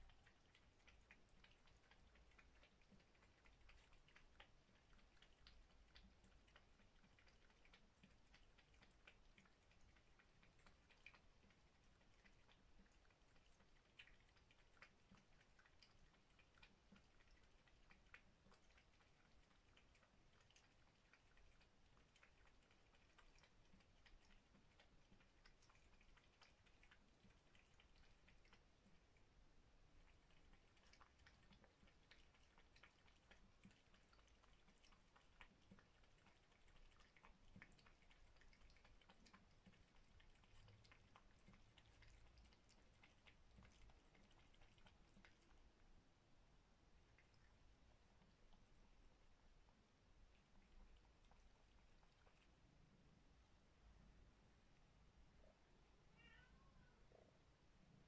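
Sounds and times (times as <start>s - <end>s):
cat eating with wet clicks: 0.0s - 55.5s.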